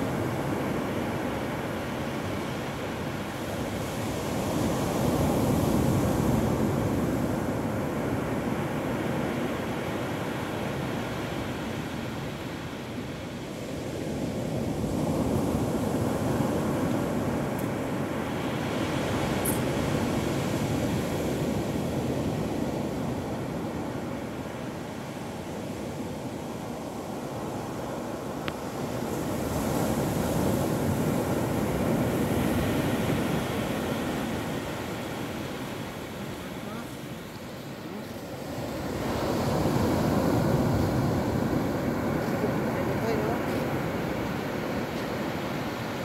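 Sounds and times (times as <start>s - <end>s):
surf breaking on sand: 0.0s - 46.0s.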